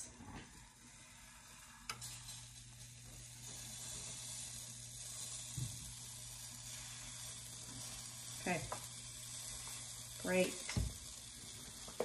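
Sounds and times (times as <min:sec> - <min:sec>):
pancake batter sizzling: 0:00.0 - 0:12.0.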